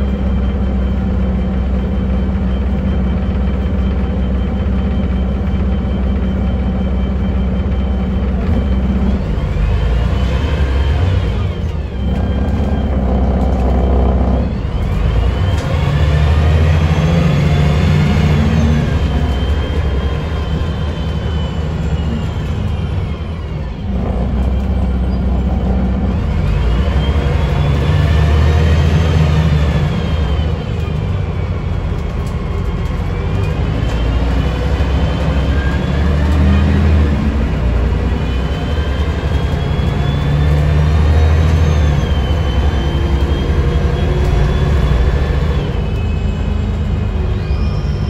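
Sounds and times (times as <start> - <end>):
bus engine whining: 0.0 - 48.0.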